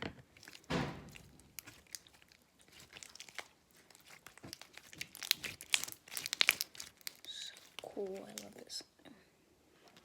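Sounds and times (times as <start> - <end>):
slime squishing with sticky pops: 0.2 - 8.8.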